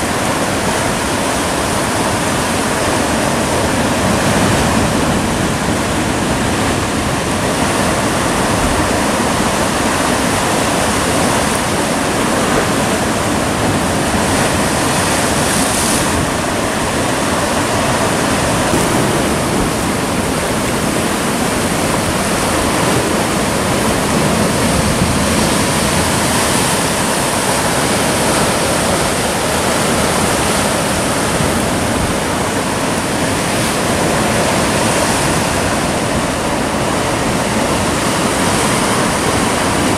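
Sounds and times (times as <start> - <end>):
surf breaking over rocks: 0.0 - 39.9.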